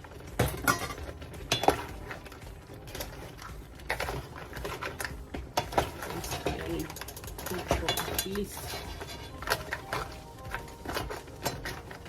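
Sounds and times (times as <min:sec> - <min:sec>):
spoon clinking against cookware: 0:00.4 - 0:12.0.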